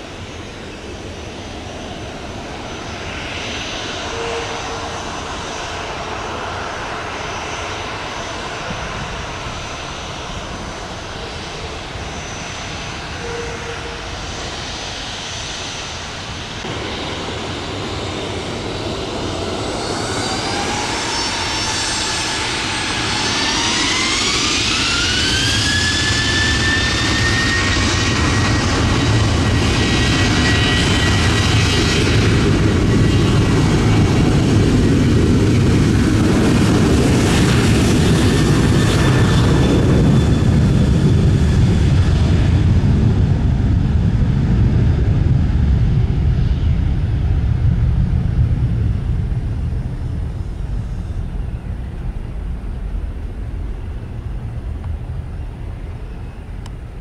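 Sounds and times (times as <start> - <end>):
loud jet roar: 0.0 - 55.8
jet engine fan whine: 0.0 - 57.0.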